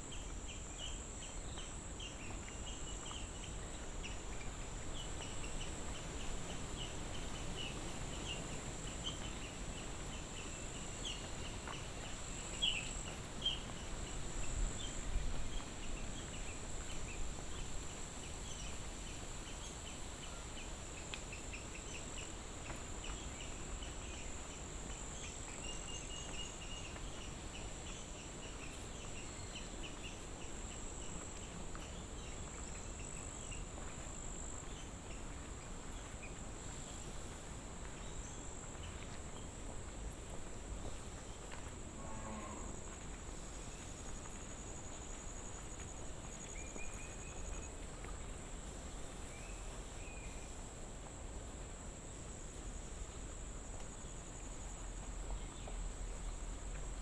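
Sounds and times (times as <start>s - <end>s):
insect chirps: 0.0s - 57.0s
insects droning: 0.0s - 57.0s.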